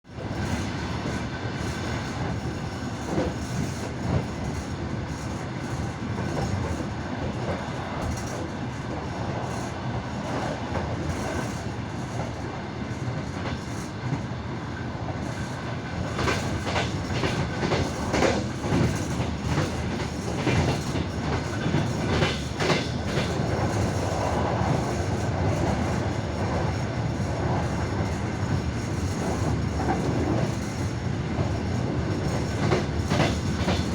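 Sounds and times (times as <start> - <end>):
train running rumble: 0.1 - 33.9
train wheels clacking at rail joints: 0.1 - 33.9.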